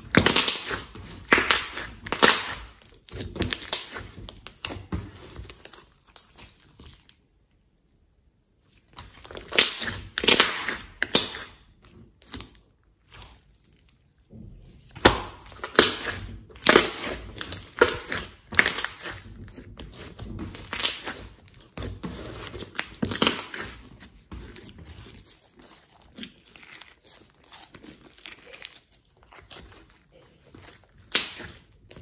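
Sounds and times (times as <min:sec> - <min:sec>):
slime squelching: 0:00.0 - 0:32.0.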